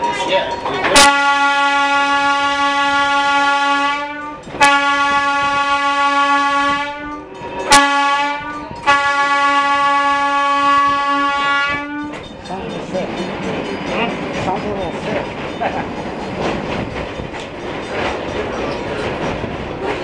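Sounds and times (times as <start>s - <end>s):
streetcar whine: 0.0s - 20.0s.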